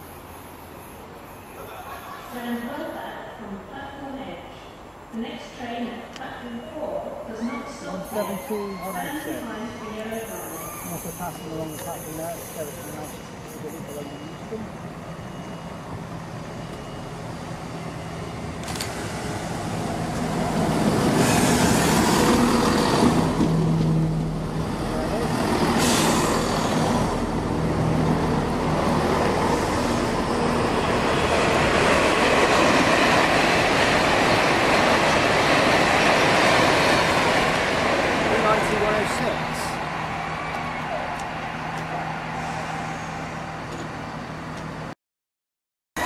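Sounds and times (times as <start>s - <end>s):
diesel train engines humming: 0.0s - 44.9s.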